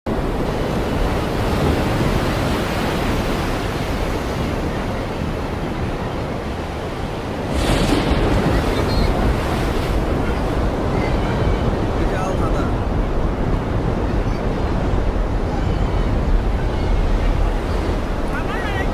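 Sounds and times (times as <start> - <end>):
storm wind buffeting microphone: 0.1 - 18.9.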